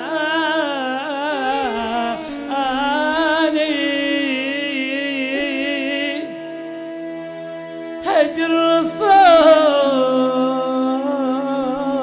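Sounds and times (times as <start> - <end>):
man singing with vibrato: 0.0 - 6.8, 8.0 - 12.0.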